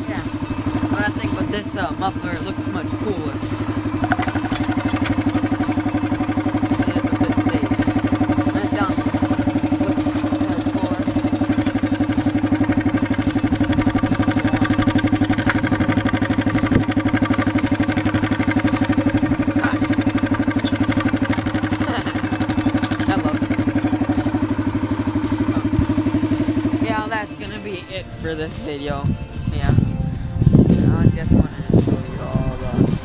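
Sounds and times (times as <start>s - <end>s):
atv engine idling: 0.0s - 33.0s.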